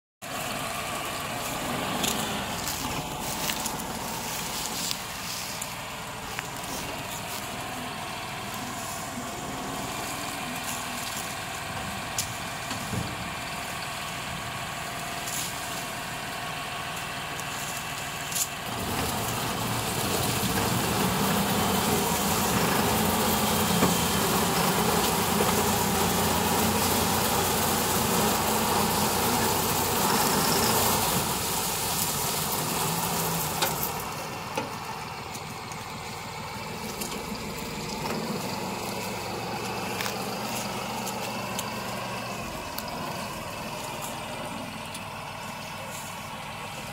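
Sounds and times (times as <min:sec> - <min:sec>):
tractor diesel engine running: 0:00.2 - 0:46.9.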